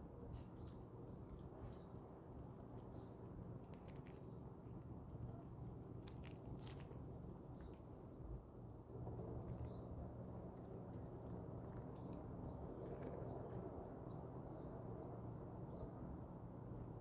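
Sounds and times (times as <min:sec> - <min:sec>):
faint low background noise: 0:00.0 - 0:17.0
small birds chirping: 0:00.2 - 0:15.9.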